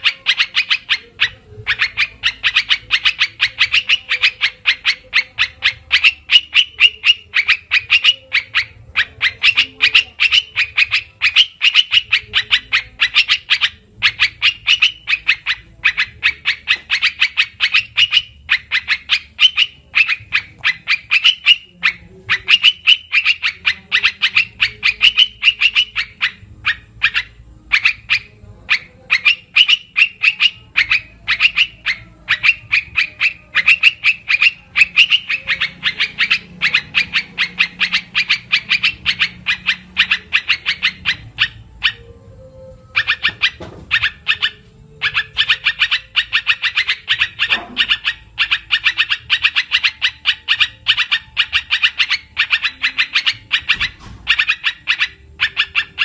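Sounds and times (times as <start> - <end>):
bird chattering calls: 0.0 - 56.0.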